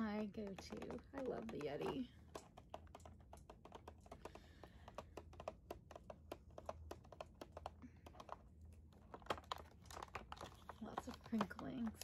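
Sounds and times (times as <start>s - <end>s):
tapping on crinkly packaging: 0.0s - 12.0s.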